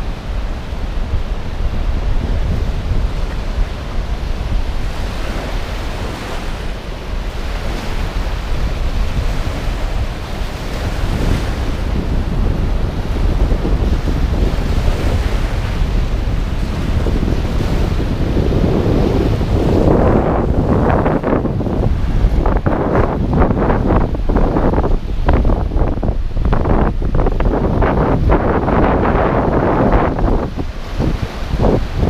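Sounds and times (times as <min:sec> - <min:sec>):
waves washing on sandy shore: 0:00.0 - 0:32.0
wind buffeting microphone: 0:00.0 - 0:32.0.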